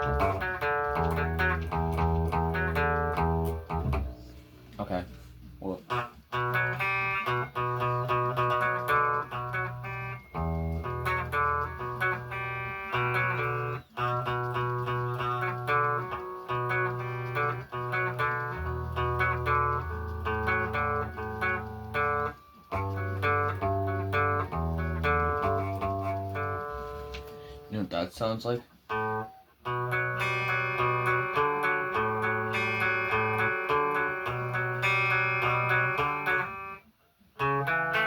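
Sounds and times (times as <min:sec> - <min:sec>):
solo guitar with bass line: 0:00.0 - 0:27.7, 0:28.8 - 0:36.8, 0:37.4 - 0:38.0.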